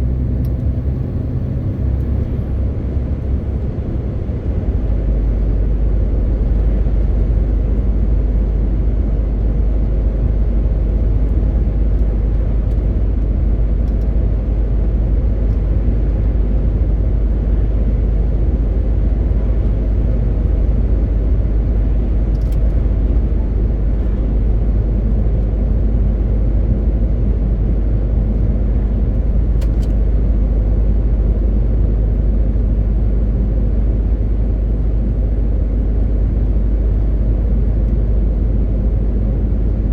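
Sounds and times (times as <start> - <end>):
truck diesel engine rumble: 0.0 - 26.0, 27.8 - 39.9.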